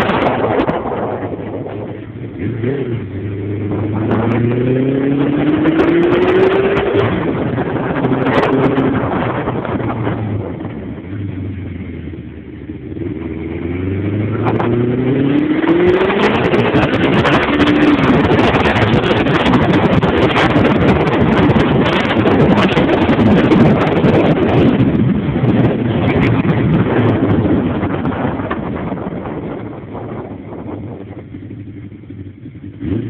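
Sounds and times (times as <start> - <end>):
motorcycle engine accelerating: 0.0 - 33.0
wind rushing over microphone: 0.0 - 33.0.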